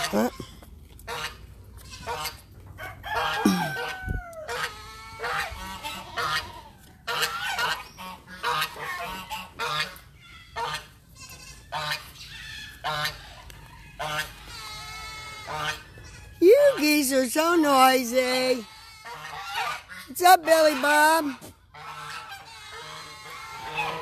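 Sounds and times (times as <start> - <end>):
geese honking: 1.1 - 1.4, 2.0 - 24.0.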